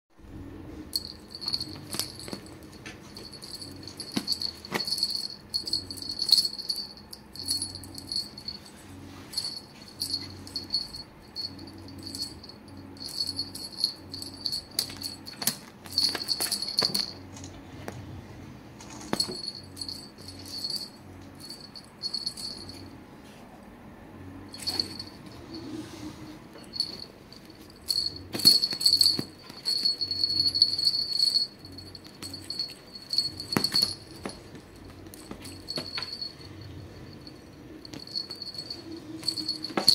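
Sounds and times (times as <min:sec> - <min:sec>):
beads jingling and rattling: 0:00.9 - 0:17.5, 0:18.9 - 0:22.9, 0:24.5 - 0:25.3, 0:26.6 - 0:36.5, 0:37.1 - 0:39.9.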